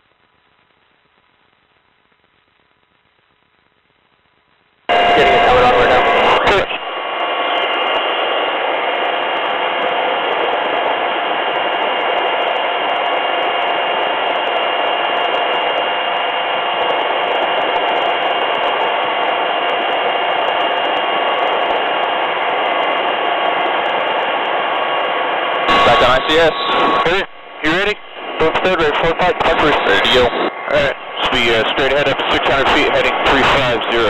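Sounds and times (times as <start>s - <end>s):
helicopter cabin noise: 4.9s - 34.0s.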